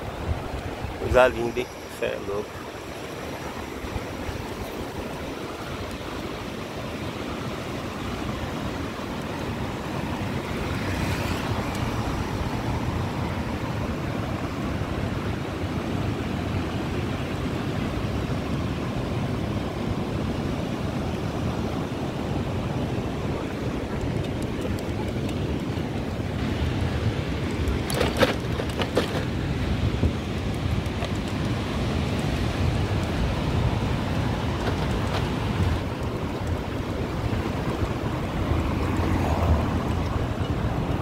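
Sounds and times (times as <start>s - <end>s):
ocean surf washing: 0.0s - 41.0s
wind rumbling on microphone: 0.0s - 41.0s.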